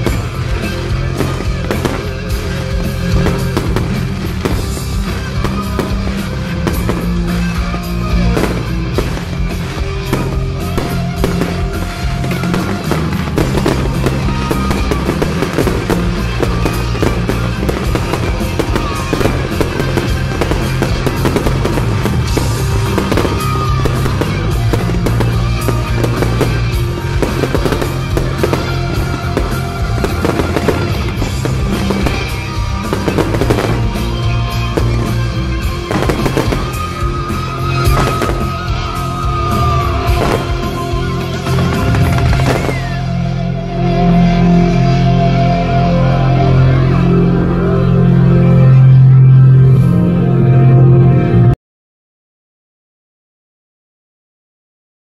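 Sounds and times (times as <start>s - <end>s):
fireworks bursting and crackling: 0.0s - 45.2s
loud show music: 0.0s - 51.6s.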